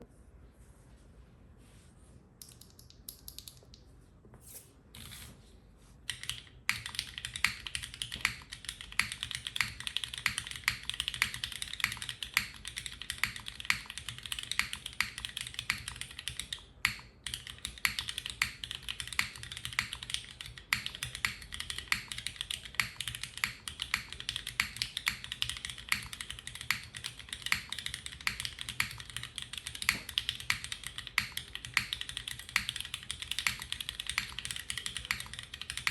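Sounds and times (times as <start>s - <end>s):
mechanical keyboard typing: 6.1s - 35.9s.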